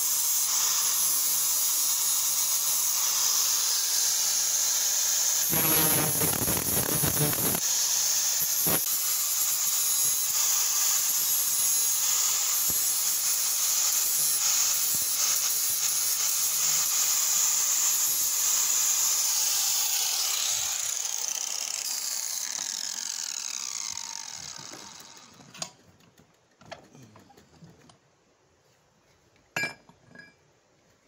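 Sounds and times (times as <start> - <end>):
angle grinder cutting steel: 0.0 - 25.7.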